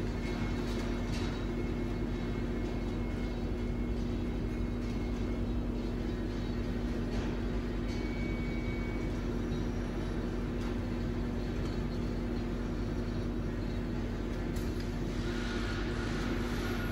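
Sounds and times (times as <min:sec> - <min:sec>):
steady machine hum: 0:00.0 - 0:16.9.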